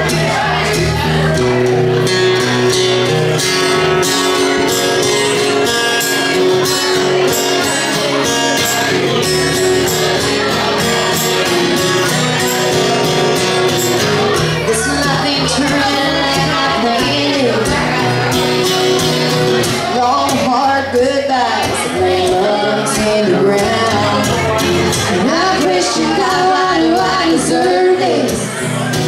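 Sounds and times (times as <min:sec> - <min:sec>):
live band playing loudly: 0:00.0 - 0:29.0.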